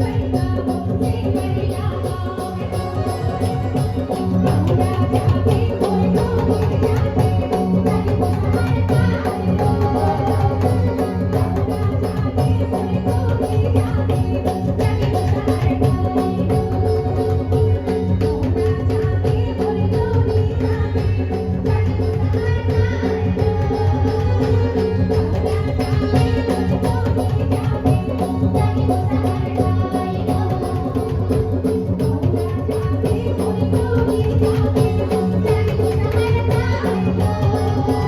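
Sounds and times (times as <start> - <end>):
fast drum rhythm: 0.0 - 38.0.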